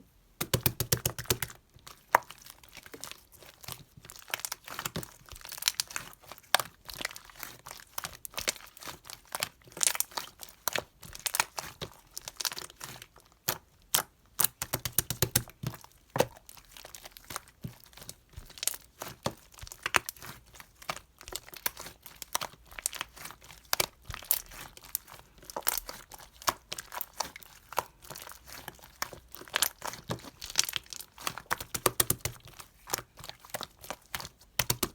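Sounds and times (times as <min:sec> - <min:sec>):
crinkling and crackling: 0:01.1 - 0:34.9.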